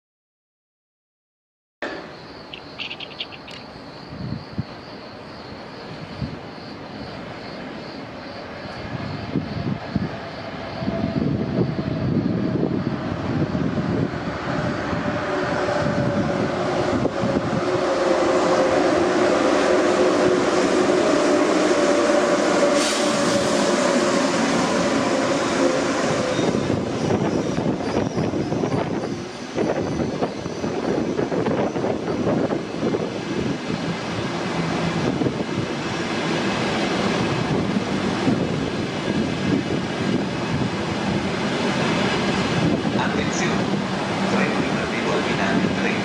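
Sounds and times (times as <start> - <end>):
train clattering rumble: 1.8 - 46.0
train whine: 1.8 - 46.0.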